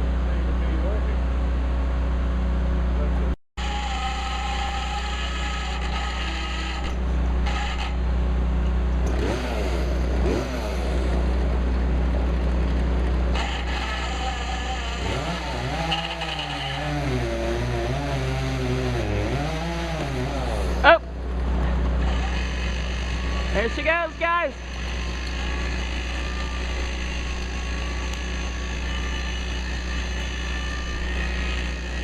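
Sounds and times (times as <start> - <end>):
engine running and revving: 3.6 - 32.0.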